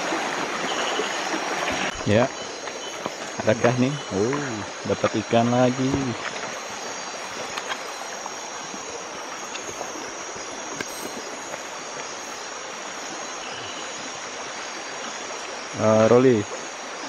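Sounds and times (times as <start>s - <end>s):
high-pitched insect chorus: 0.0s - 17.0s
river water flowing over stones: 0.0s - 17.0s.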